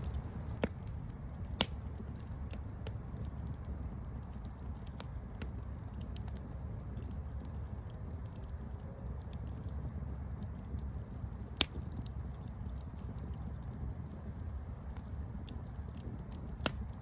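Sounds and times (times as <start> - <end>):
campfire crackling: 0.0 - 17.0
fire popping and snapping: 0.0 - 17.0.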